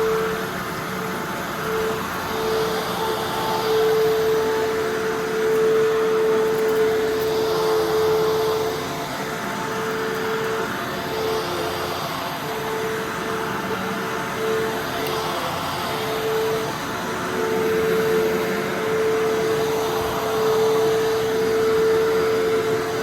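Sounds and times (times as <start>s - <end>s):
upright vacuum cleaner running: 0.0s - 23.0s.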